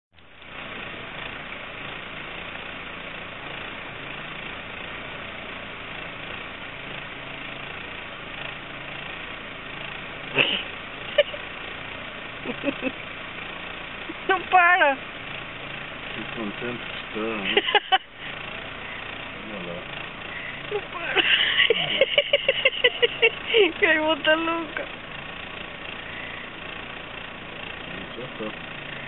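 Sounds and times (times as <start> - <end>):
vehicle engine idling: 0.2 - 29.0.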